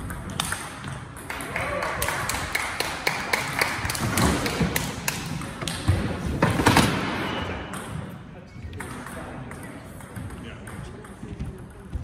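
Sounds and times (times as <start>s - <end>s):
table tennis balls bouncing: 0.0s - 12.0s.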